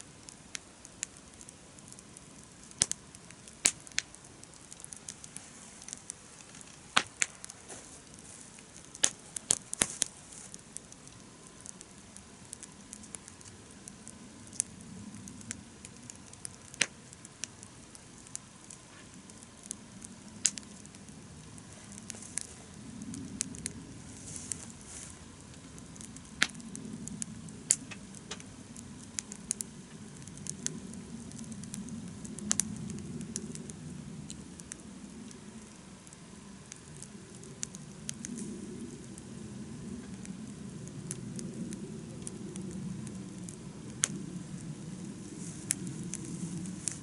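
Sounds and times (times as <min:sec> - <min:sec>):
campfire crackling and popping: 0:00.0 - 0:47.0
faint steady hiss: 0:00.0 - 0:47.0.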